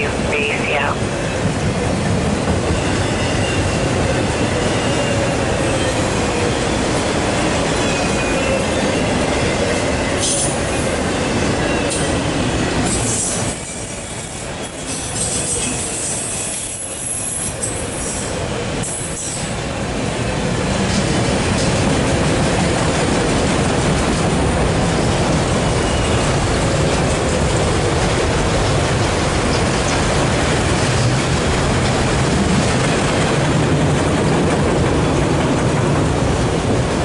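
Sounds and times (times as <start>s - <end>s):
freight wheels rumbling on rail: 0.0s - 37.0s.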